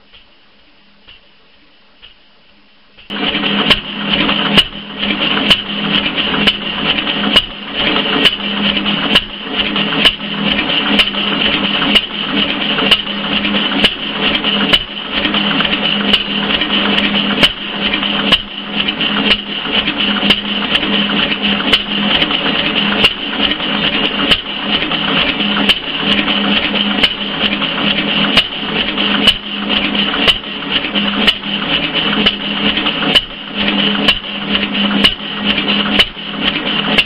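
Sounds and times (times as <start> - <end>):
stationary gas engine running: 3.1 - 37.0.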